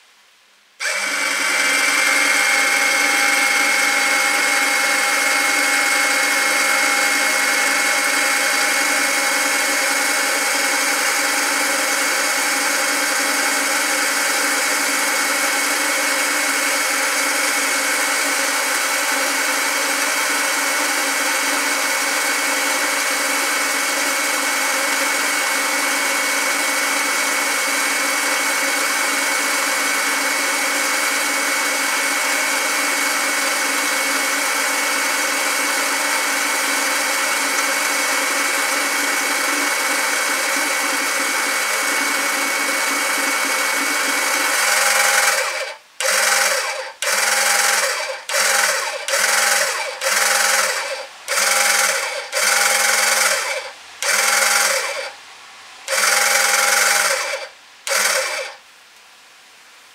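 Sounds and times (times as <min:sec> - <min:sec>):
electric pump humming and whining: 0:00.8 - 0:58.6.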